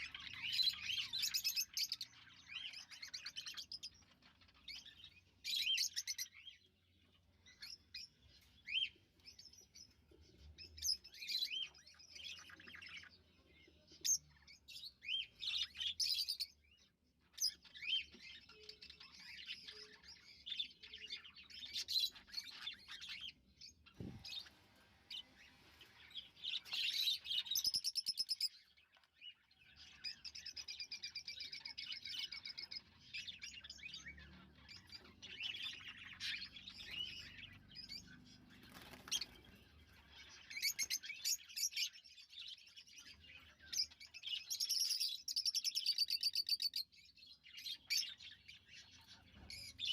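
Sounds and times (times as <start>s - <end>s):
lovebirds chirping: 0.0s - 49.9s.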